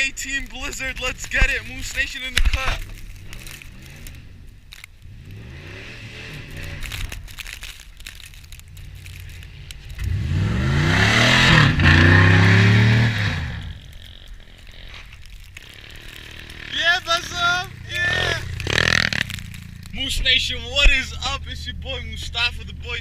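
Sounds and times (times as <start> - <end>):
vehicle engine revving: 0.0 - 23.0.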